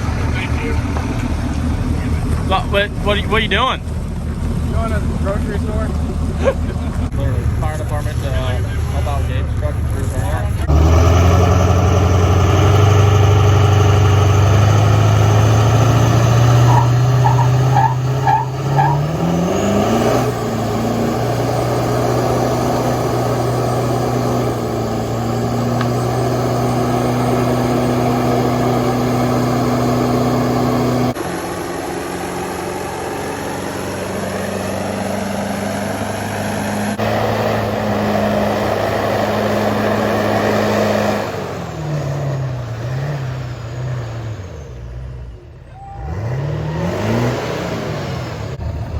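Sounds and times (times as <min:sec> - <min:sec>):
truck engine at high revs: 0:00.0 - 0:48.9.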